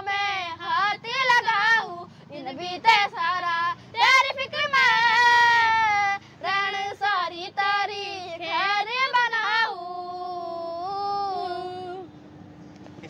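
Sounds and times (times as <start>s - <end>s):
children singing unaccompanied: 0.0s - 12.1s.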